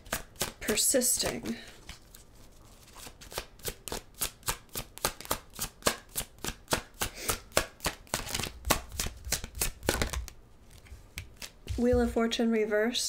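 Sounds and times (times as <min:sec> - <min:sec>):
cards shuffled by hand: 0:00.0 - 0:12.2.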